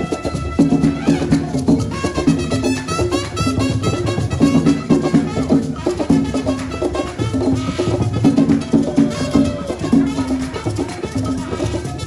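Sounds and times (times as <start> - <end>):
background music with percussion: 0.0 - 12.0.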